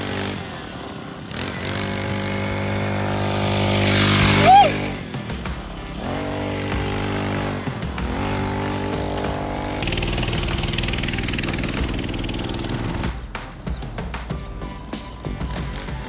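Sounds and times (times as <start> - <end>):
two-stroke engine revving: 0.0 - 16.0.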